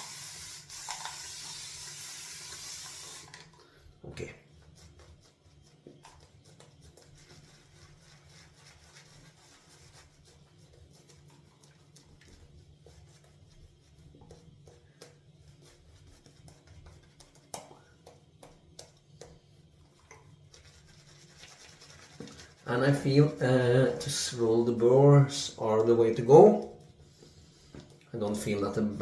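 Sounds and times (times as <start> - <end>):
shaving brush rubbing on soap: 4.2 - 29.0.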